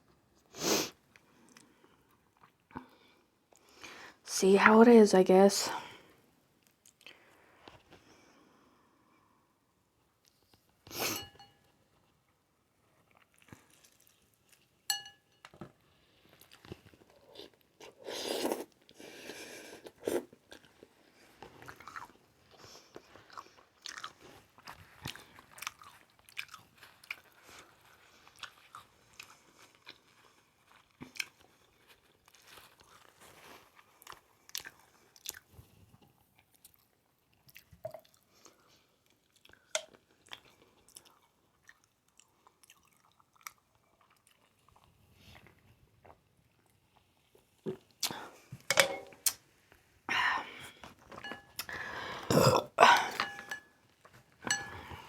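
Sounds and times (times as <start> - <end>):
chewing and crunching food: 0.1 - 3.8, 6.6 - 8.6, 10.0 - 48.5.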